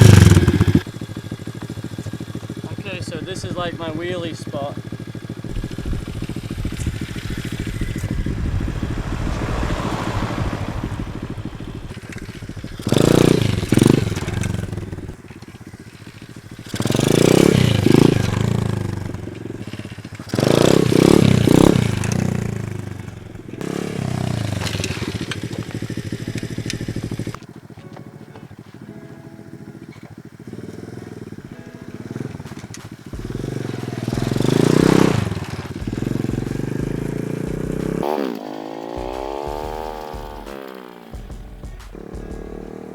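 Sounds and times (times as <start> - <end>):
motorbike engine revving: 0.0 - 27.8, 28.4 - 42.9.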